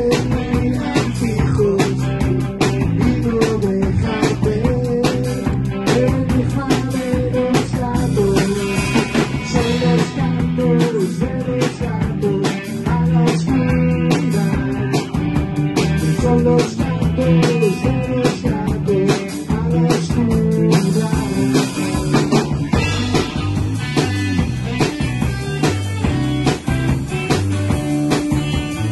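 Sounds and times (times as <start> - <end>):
drum kit beat: 0.0 - 28.9
electric guitars: 0.0 - 28.9
rock band playing: 0.0 - 28.9.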